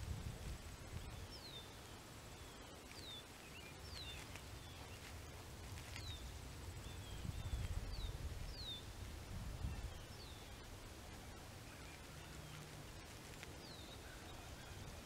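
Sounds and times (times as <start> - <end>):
wind rumble: 0.0 - 2.4, 3.8 - 15.0.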